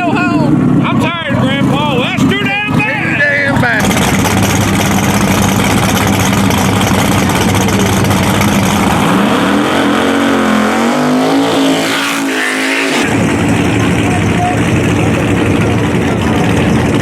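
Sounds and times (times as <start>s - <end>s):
racing car engine running hard: 0.0s - 17.0s.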